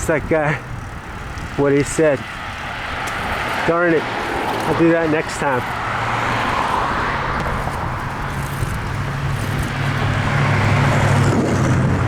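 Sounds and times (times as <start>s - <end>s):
road traffic hum: 0.0s - 12.0s
wind rushing over microphone: 0.0s - 12.0s.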